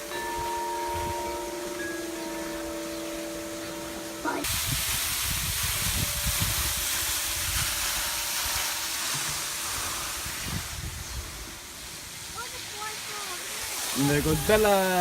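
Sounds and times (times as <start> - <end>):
steady rushing hiss: 0.0 - 15.0.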